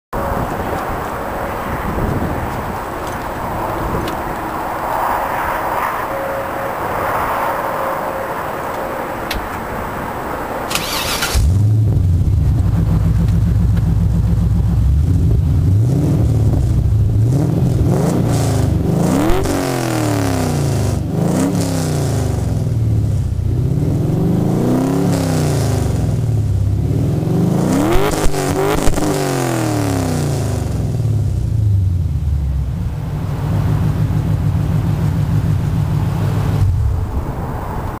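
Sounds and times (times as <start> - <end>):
car engine idling and revving: 0.1 - 38.0.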